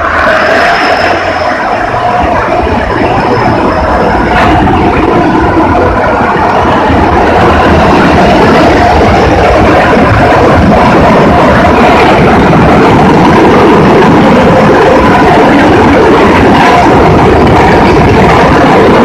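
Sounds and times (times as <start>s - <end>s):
car wash machinery running: 0.0s - 19.0s.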